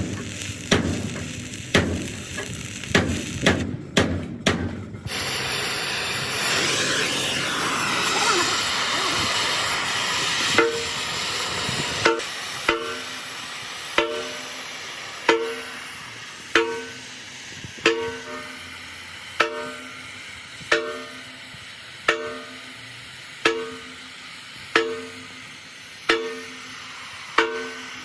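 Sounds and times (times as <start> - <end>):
steady hissing: 0.0 - 3.6, 5.1 - 28.0.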